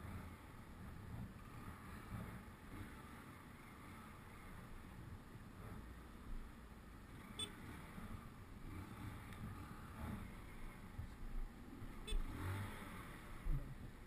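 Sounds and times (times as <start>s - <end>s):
motorcycle moving: 0.0s - 14.0s
road traffic rumble: 0.0s - 14.0s.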